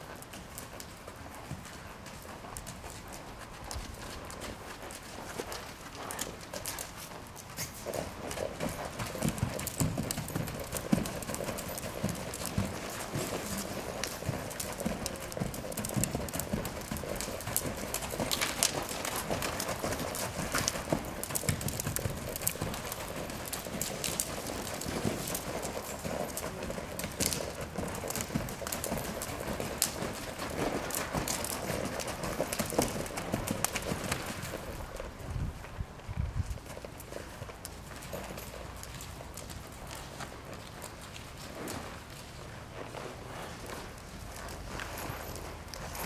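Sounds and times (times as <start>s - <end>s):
horse hoofbeats on sand: 0.0s - 46.0s.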